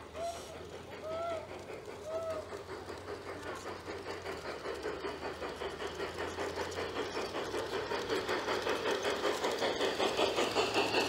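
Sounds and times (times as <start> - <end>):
model steam locomotive chuffing: 0.0 - 11.0.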